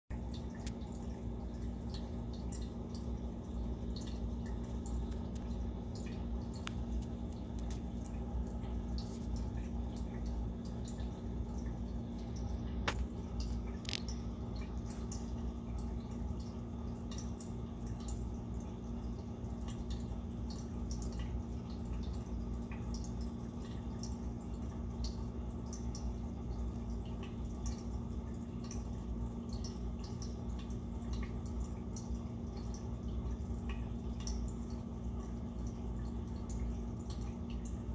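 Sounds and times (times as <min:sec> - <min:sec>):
low filter hum: 0:00.1 - 0:37.9
water dripping and popping: 0:00.1 - 0:37.9.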